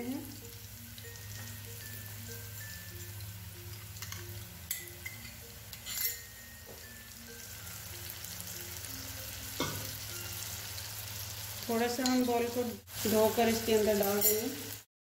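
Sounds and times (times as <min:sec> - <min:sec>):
onions sizzling in oil: 0:00.0 - 0:14.9.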